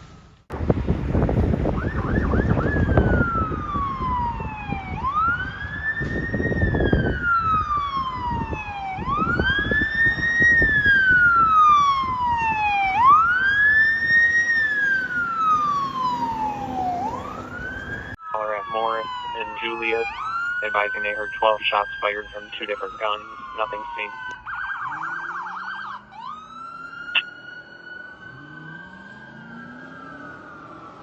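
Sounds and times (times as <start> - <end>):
engine and road noise: 0.0 - 31.0
fire engine siren wailing: 0.0 - 31.0.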